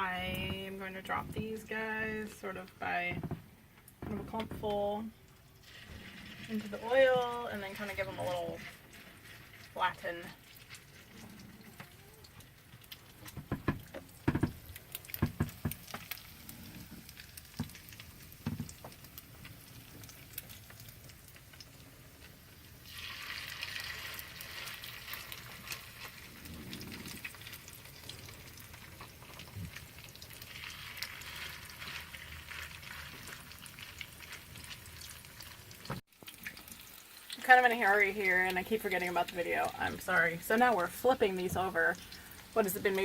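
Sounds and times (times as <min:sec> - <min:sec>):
food sizzling in frying pan: 0:04.8 - 0:43.0.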